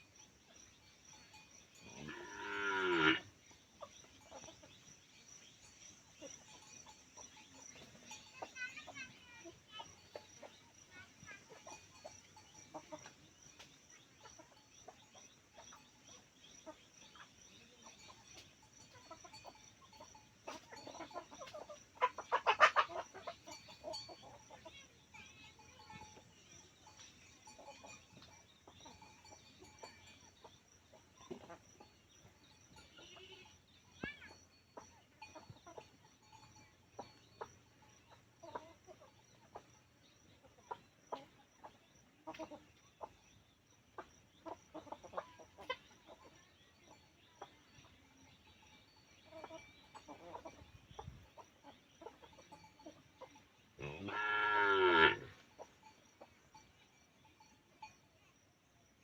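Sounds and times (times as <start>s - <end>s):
chickens clucking: 0.0s - 56.8s.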